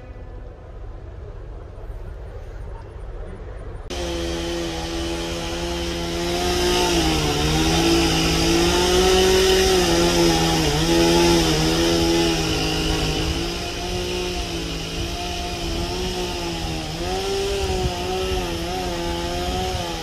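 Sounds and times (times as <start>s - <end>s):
chainsaw cutting wood: 3.9s - 20.0s.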